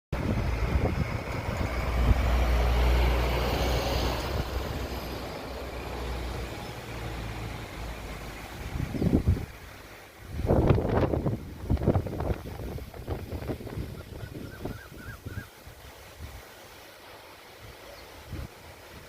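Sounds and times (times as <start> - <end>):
strong wind buffeting microphone: 0.2 - 16.4, 18.2 - 19.0.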